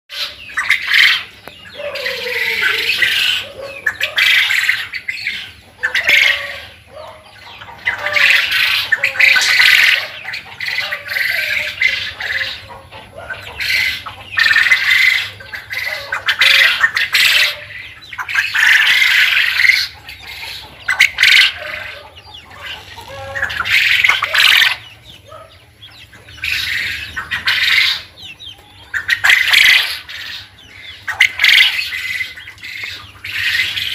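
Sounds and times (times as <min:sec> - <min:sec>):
quail calling: 0:00.1 - 0:33.9.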